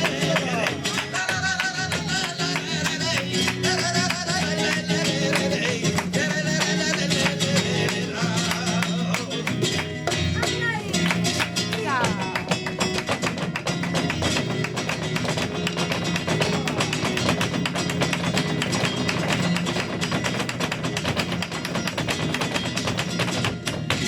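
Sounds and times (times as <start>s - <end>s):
flamenco guitar strummed and plucked: 0.0s - 24.0s
sharp percussive taps: 0.0s - 24.0s.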